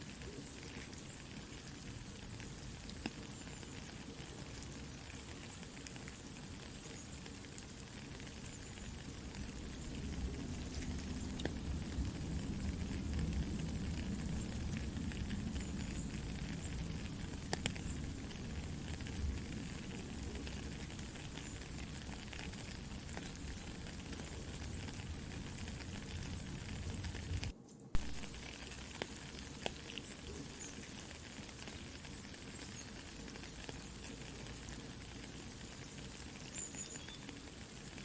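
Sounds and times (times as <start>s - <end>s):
campfire crackling: 0.0s - 38.0s
soft steady rain: 0.0s - 38.0s.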